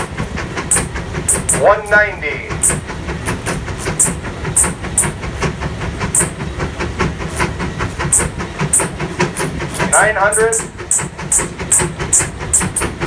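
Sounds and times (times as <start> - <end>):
steam engine exhaust barking: 0.0 - 13.0.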